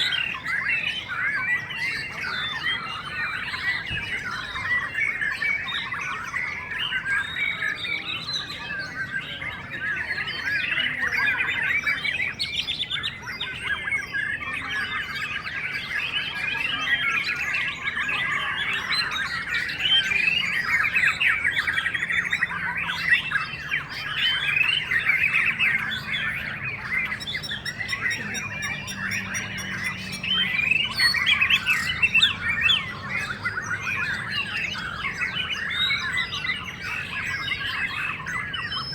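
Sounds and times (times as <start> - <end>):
chorus of birds singing: 0.0 - 38.9.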